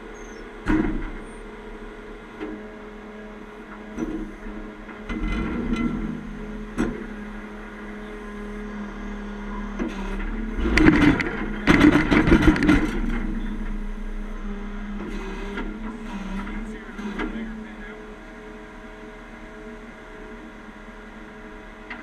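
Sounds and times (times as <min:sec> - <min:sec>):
diesel truck engine idling and revving: 0:00.0 - 0:22.0.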